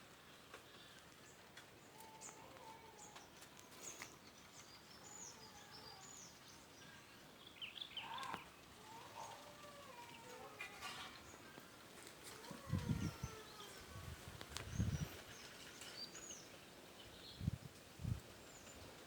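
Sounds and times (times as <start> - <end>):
outdoor background noise: 0.0 - 19.0
birds chirping: 0.1 - 17.6.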